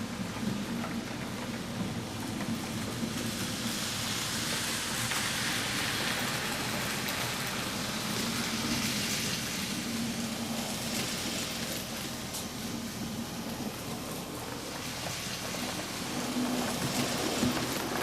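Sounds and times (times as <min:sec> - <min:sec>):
model train wheels rolling on rails: 0:00.0 - 0:18.0.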